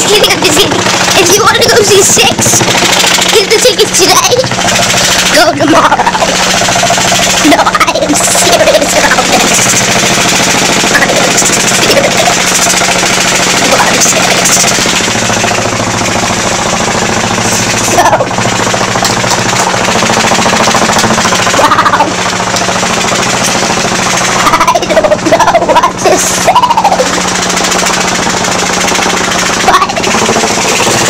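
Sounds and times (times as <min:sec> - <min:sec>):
steady machine hum: 0:00.0 - 0:31.0
vest pulsing rapidly: 0:00.0 - 0:31.0.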